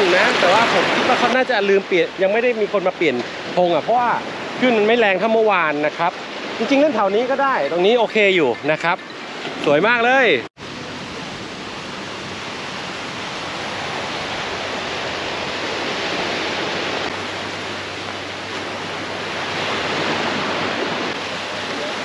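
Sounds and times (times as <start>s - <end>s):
waves washing onto shore: 0.0s - 22.0s.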